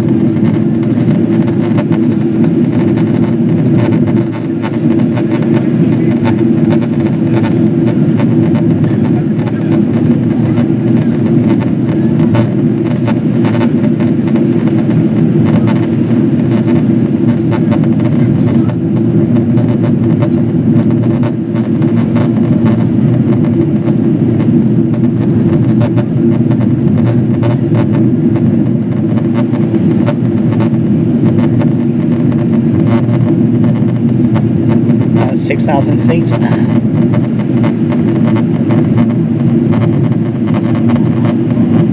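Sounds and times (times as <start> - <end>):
aircraft cabin engine roar: 0.0 - 41.9.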